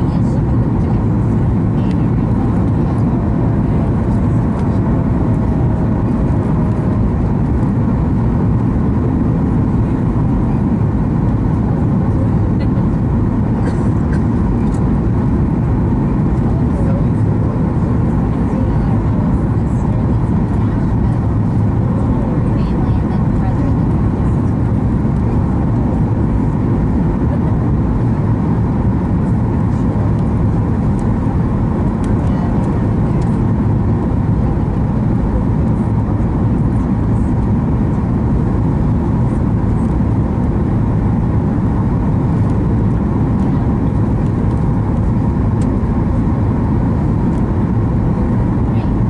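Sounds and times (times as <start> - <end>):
airplane engine and airflow rumble: 0.0 - 49.0
faint constant hum: 0.0 - 49.0.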